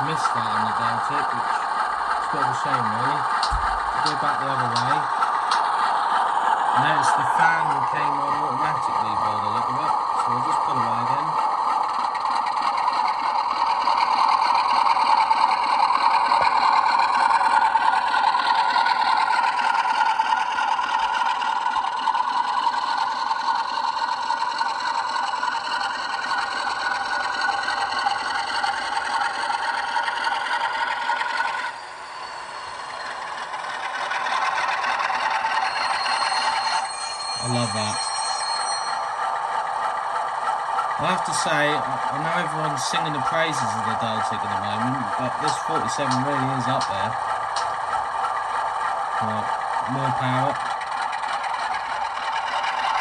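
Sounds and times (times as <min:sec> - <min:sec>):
model diesel engine sound: 0:00.0 - 0:53.0.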